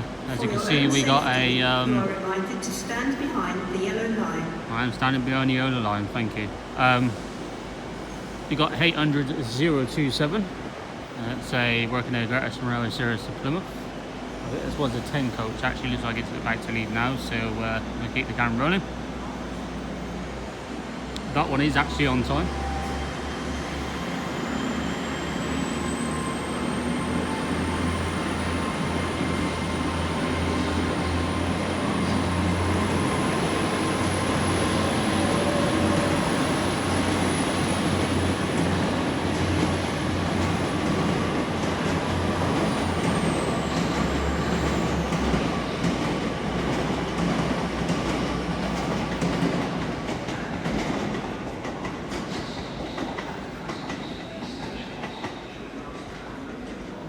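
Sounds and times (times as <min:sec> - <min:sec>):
diesel train engine hum: 0:00.0 - 0:51.8
high whine of train: 0:00.0 - 0:57.0.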